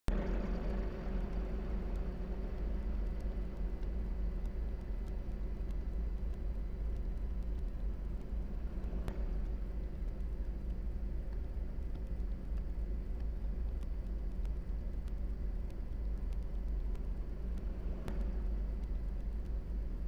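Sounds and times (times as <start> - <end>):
low rumbling noise: 0.1 - 20.0
faint clicks: 0.6 - 20.0.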